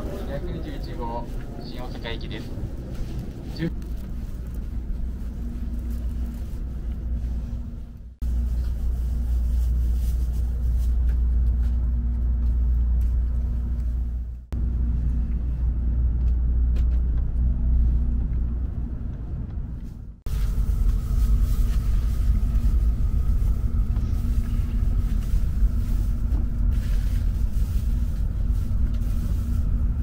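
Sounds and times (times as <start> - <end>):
steady low hum: 0.0 - 30.0
train rumble inside carriage: 0.0 - 30.0.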